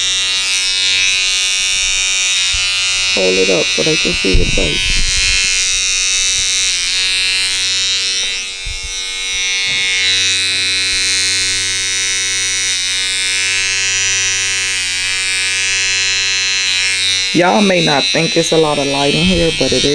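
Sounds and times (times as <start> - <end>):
electric hair trimmer buzzing: 0.0 - 19.9.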